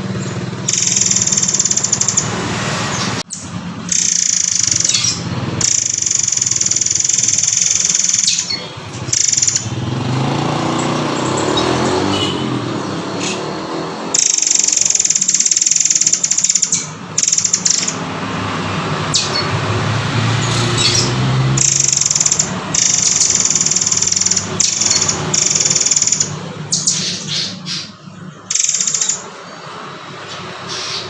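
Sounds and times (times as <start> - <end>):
bird singing rattling bursts: 0.0 - 31.0.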